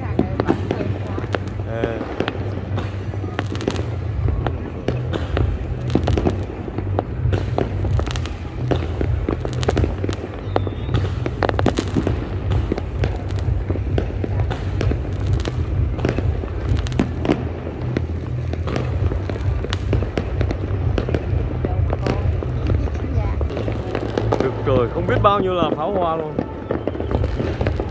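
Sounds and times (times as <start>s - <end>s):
fireworks bangs and crackles: 0.0s - 27.9s
low rumble: 0.0s - 27.9s.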